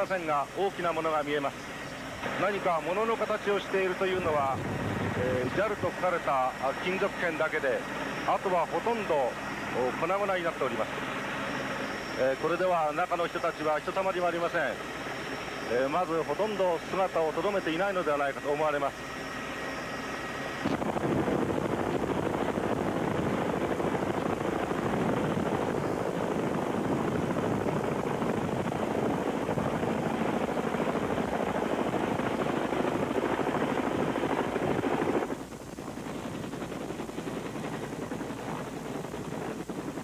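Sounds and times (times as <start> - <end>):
helicopter rotor and engine: 0.0 - 40.0
steady background noise: 0.0 - 40.0.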